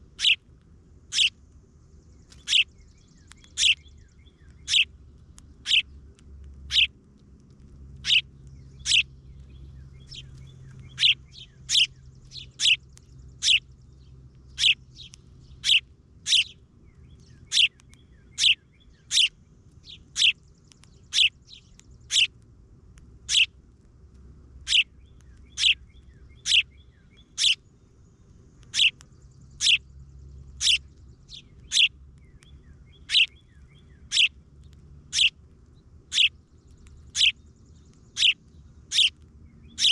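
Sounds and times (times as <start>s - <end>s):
bird chirping: 0.0s - 0.4s, 1.1s - 6.0s, 6.7s - 6.9s, 8.0s - 22.3s, 23.3s - 23.5s, 24.6s - 39.9s.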